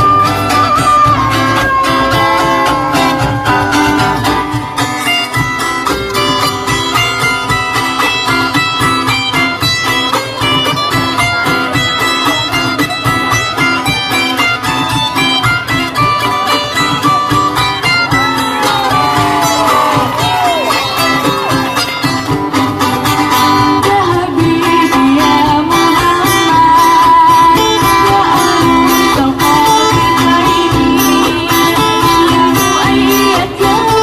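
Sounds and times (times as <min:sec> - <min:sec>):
plucked guitar notes: 0:00.0 - 0:34.0
steady drum beat: 0:00.0 - 0:34.0.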